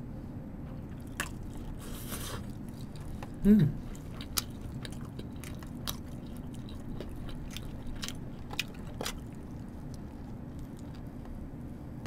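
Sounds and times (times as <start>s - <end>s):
steady low hum: 0.0s - 12.0s
person chewing: 0.8s - 11.4s.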